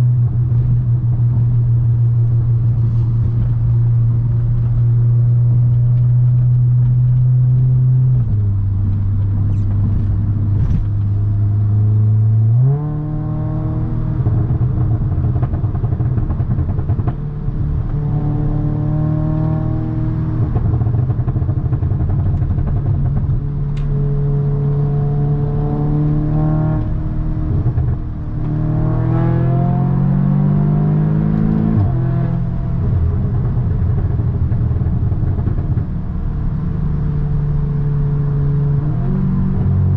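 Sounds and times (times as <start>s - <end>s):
car engine and exhaust accelerating: 0.0s - 39.9s.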